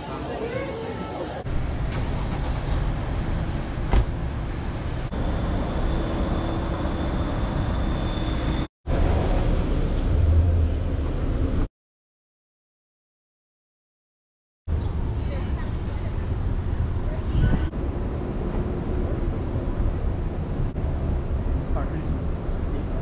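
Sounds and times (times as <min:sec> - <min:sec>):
car road and engine noise: 0:01.4 - 0:11.7, 0:14.7 - 0:23.0.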